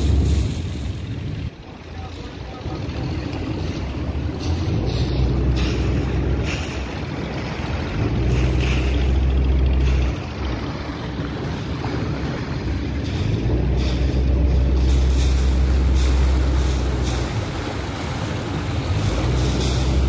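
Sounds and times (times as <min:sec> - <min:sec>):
boat engine humming: 0:00.0 - 0:20.0
propeller wash churning water: 0:00.0 - 0:20.0.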